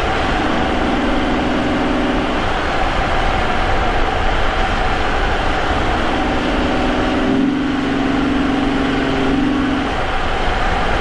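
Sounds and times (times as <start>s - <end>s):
car engine cruising: 0.0s - 11.0s
road noise: 0.0s - 11.0s.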